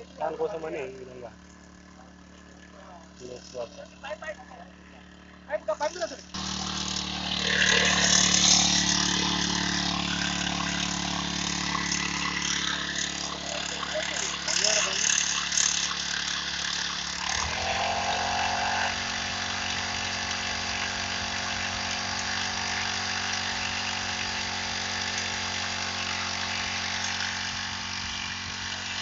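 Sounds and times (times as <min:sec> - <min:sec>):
sprayer pump engine running: 0:00.0 - 0:29.0.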